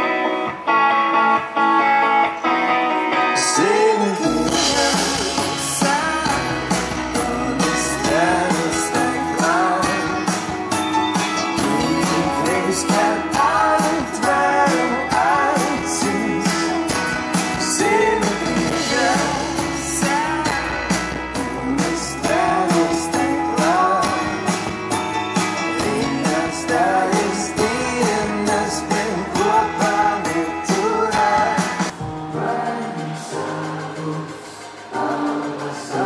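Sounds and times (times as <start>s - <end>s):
electric guitar: 0.0s - 36.0s
person singing: 0.0s - 36.0s
drum kit beat: 4.3s - 36.0s.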